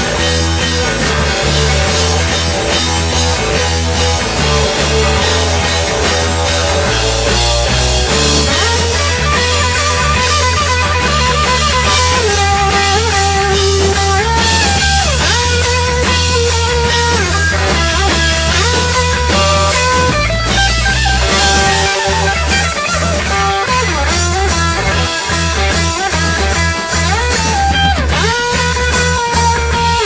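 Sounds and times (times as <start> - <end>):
rock band playing: 0.0 - 30.0
sliding lead guitar melody: 0.0 - 30.0.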